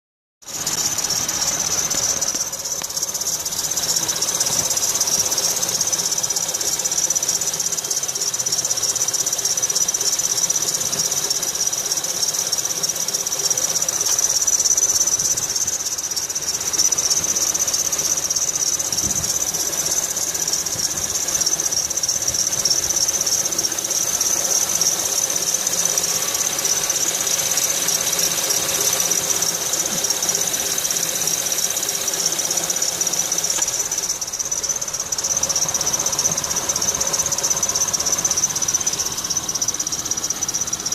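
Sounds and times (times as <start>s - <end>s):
car engine running: 0.5s - 40.9s
drive belt squealing: 0.5s - 40.9s.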